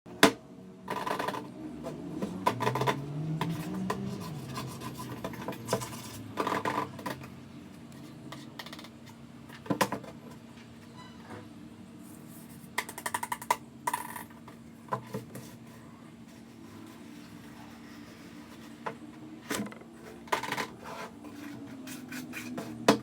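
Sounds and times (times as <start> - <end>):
items rubbing and scraping: 0.9 - 23.0.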